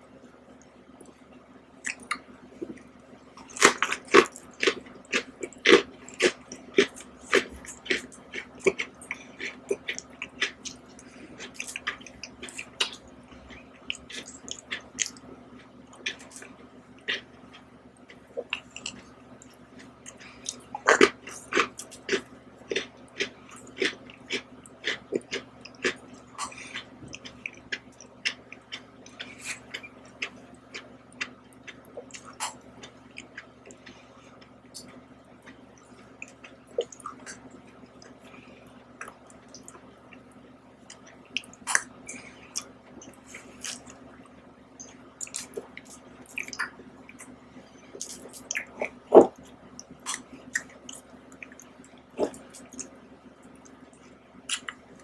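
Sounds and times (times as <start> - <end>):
wet mouth eating sounds: 1.8 - 55.0.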